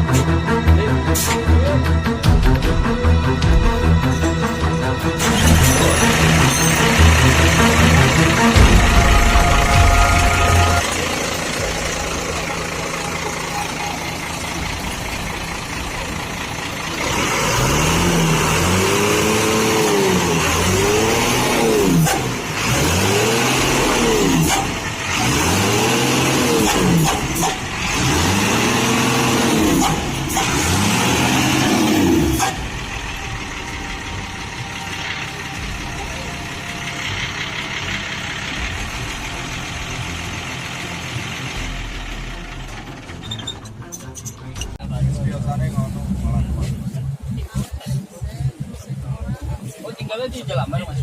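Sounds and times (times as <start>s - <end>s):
bus diesel engine revving: 0.0s - 51.0s.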